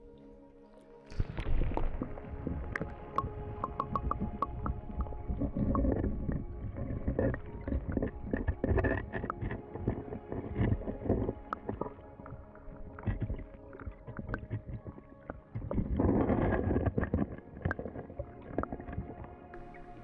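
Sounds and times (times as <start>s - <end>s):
muffled stream water flowing: 0.0s - 20.0s.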